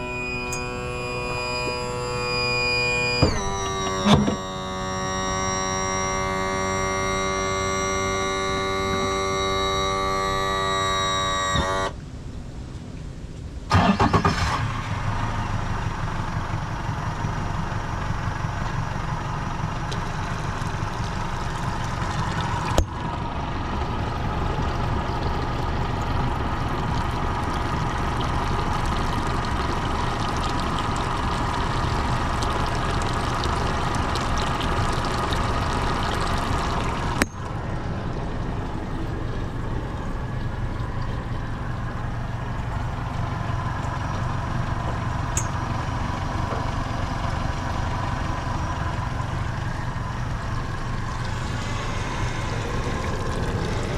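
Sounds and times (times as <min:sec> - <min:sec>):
boat engine starting and idling: 0:00.0 - 0:53.9.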